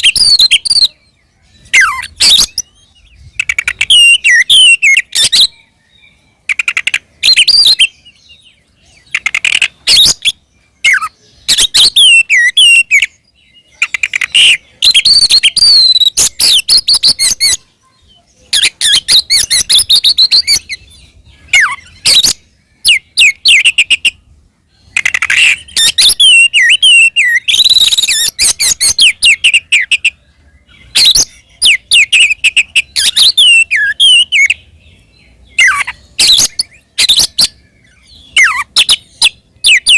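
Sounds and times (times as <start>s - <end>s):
magpie-robin singing whistles and trills: 0.0s - 39.9s.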